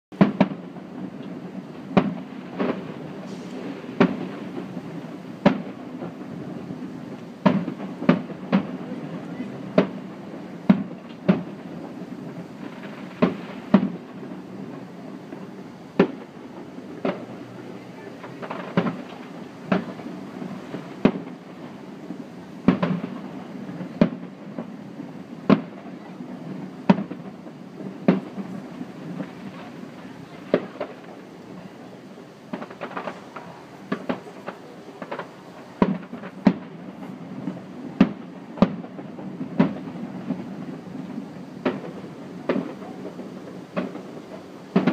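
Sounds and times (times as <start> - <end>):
fireworks bursting: 0.1 - 44.9
low background noise: 0.1 - 44.9.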